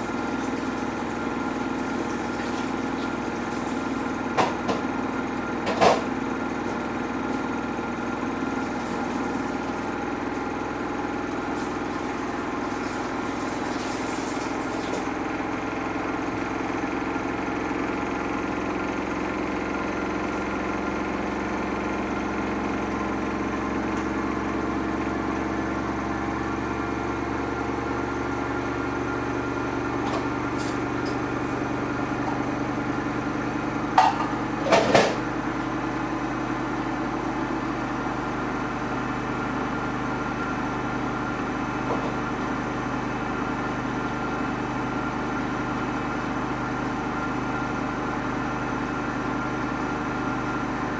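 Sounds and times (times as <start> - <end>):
washing machine motor hum: 0.0 - 50.9.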